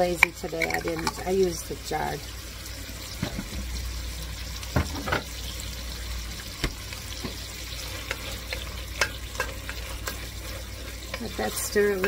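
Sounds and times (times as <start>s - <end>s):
vegetables sizzling in butter: 0.0s - 12.0s.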